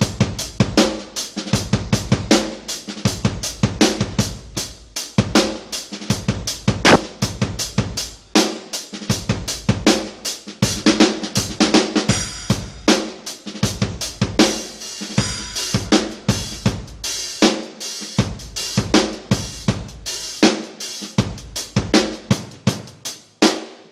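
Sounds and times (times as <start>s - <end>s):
drum kit playing: 0.0s - 23.9s.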